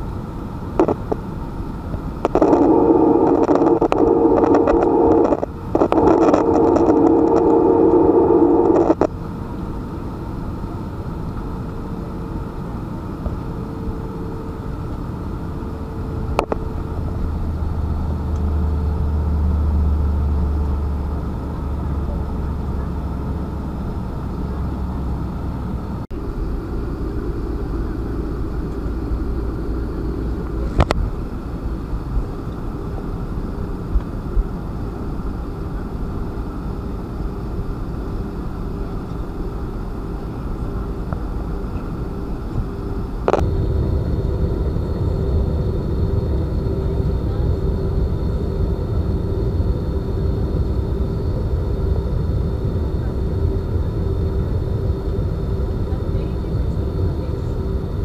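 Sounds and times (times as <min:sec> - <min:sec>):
airliner engines droning: 0:00.0 - 0:58.0
faint steady hum: 0:00.0 - 0:58.0.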